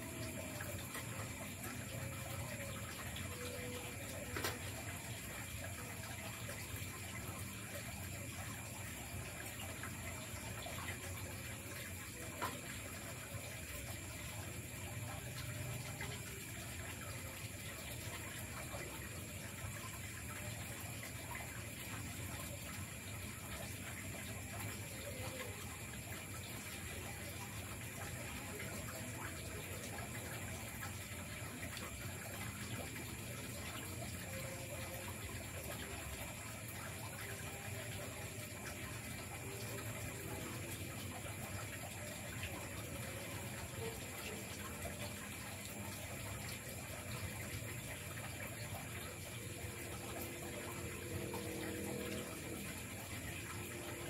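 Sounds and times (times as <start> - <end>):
insects droning: 0.0 - 54.0
rushing water-like noise: 0.0 - 54.0.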